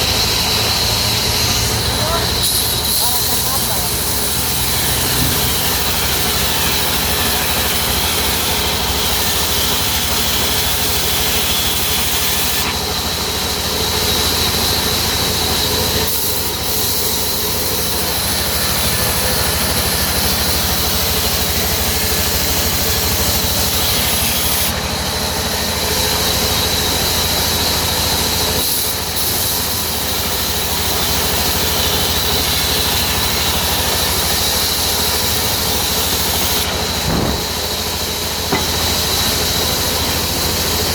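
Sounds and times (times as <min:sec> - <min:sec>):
sawmill saw cutting wood: 0:00.0 - 0:40.9.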